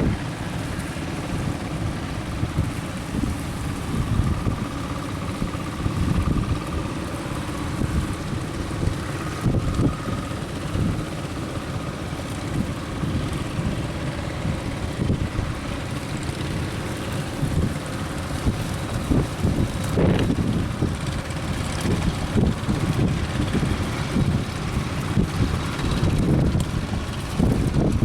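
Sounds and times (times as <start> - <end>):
boat engine running: 0.0 - 28.0
wind buffeting microphone: 0.0 - 28.0.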